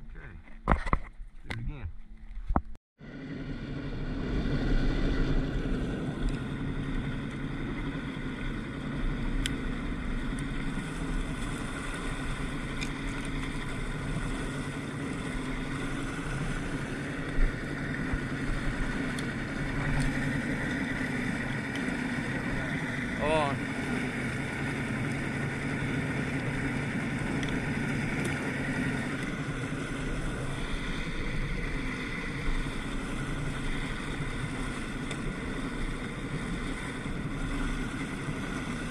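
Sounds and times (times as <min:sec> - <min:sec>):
outboard motor running: 0:00.0 - 0:38.9
wind rumble on microphone: 0:00.0 - 0:38.9
water churning past hull: 0:03.0 - 0:38.9.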